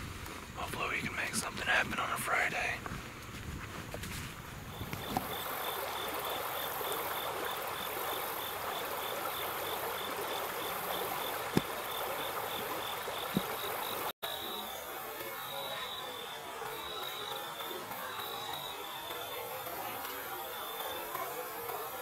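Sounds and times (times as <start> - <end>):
creek water running over rocks: 0.0 - 22.0.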